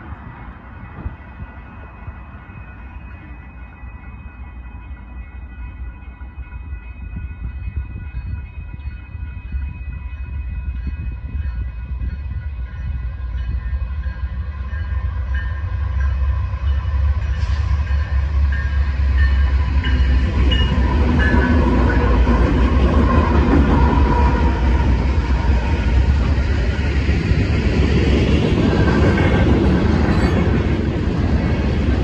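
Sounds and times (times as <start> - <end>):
level-crossing warning bells: 0.0 - 32.0
train engine and wheels rumble: 0.0 - 32.0.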